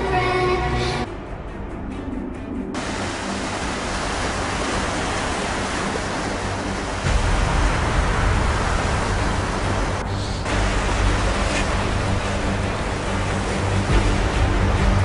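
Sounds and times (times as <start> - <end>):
small waves washing on shore: 2.8 - 15.0.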